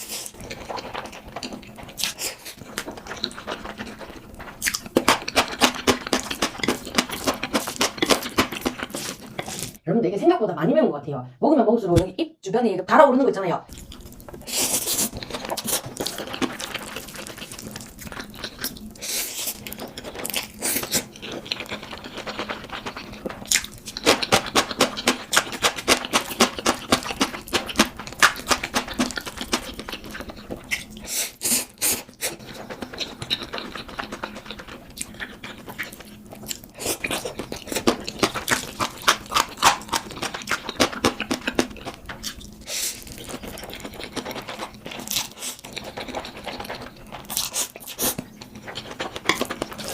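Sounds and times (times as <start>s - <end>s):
chewing and crunching: 0.0s - 9.8s, 13.7s - 49.9s.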